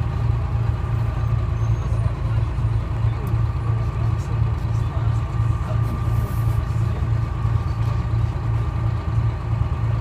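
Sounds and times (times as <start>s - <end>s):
diesel bus engine idling: 0.0s - 10.0s.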